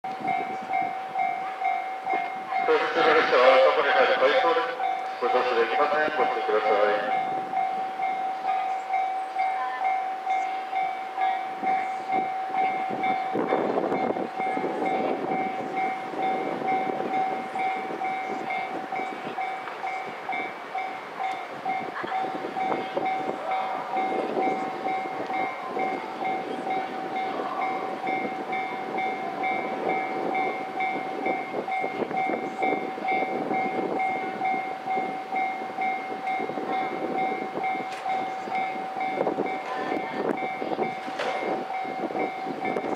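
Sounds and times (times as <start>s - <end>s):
electric train high whine: 0.1s - 42.9s.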